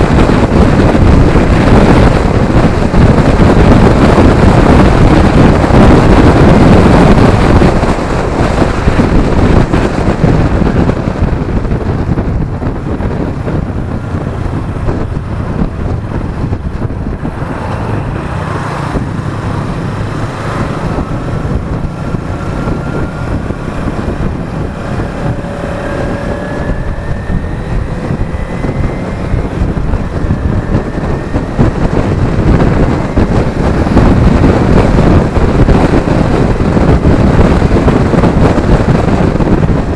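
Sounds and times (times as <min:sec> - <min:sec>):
motorcycle engine: 0:00.0 - 0:39.9
traffic road noise: 0:00.0 - 0:39.9
wind rushing over camera: 0:00.0 - 0:39.9.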